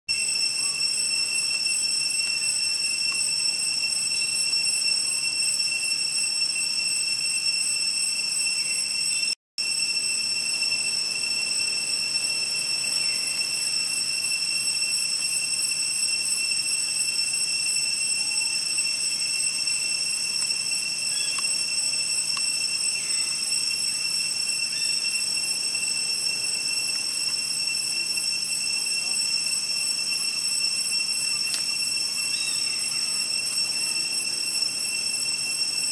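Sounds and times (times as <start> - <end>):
insects droning: 0.1 - 35.9.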